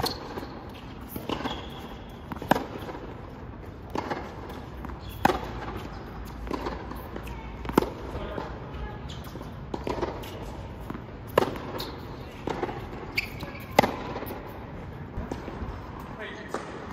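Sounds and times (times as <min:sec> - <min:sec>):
tennis balls bouncing on hard court: 0:00.0 - 0:16.9.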